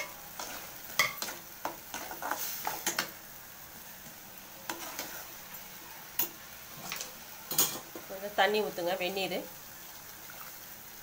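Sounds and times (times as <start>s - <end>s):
light sizzle: 0.0s - 11.0s.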